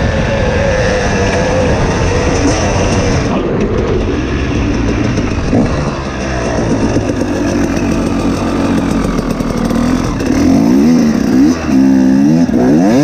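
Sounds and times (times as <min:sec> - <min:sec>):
two-stroke dirt bike engine revving: 0:00.0 - 0:13.0.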